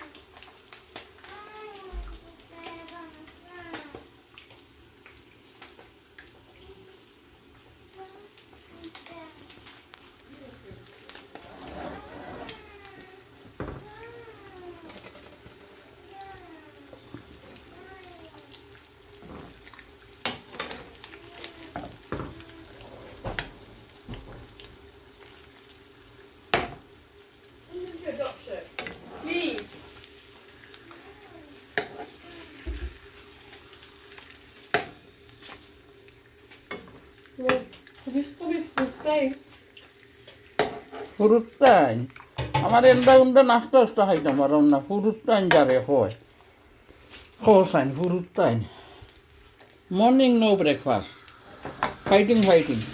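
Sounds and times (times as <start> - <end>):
eggs sizzling in a pan: 0.0 - 52.9.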